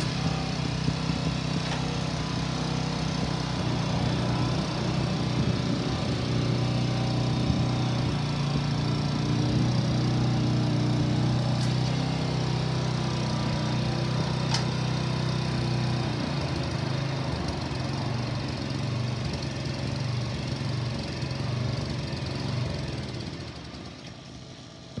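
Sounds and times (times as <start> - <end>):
tiller engine running: 0.0 - 25.0.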